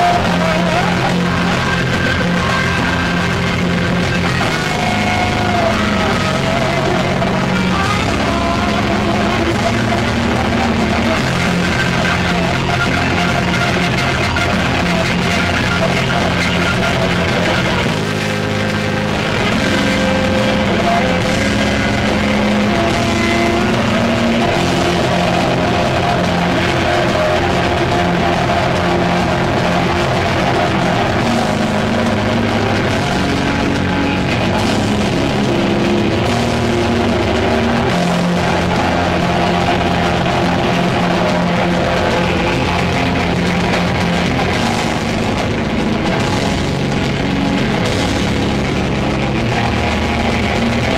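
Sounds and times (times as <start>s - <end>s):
distorted electric guitar riffing: 0.0s - 50.9s
drums: 0.0s - 50.9s.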